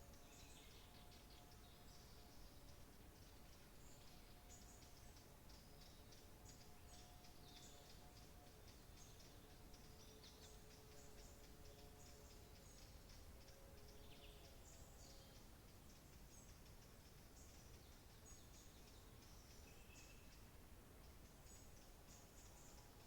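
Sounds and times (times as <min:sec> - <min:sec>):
low steady hiss: 0:00.0 - 0:23.0.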